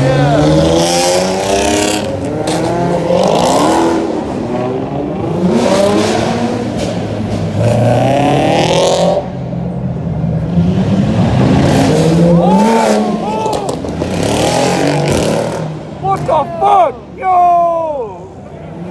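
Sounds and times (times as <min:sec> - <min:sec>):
car engine revving hard: 0:00.0 - 0:09.5, 0:10.4 - 0:16.3.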